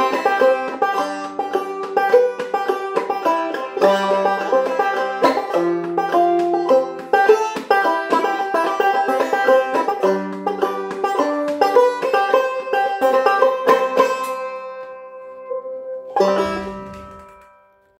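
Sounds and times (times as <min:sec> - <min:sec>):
banjo picking: 0:00.0 - 0:17.9.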